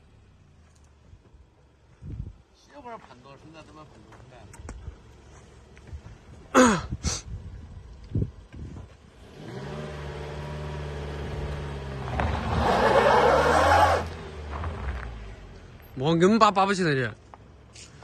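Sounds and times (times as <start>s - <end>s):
car engine idling and revving: 0.0s - 6.6s, 7.3s - 18.0s.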